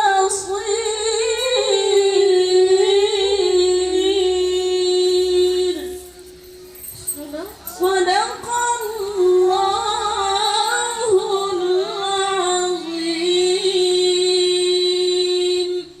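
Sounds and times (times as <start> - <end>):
woman reciting melodically: 0.0 - 16.0.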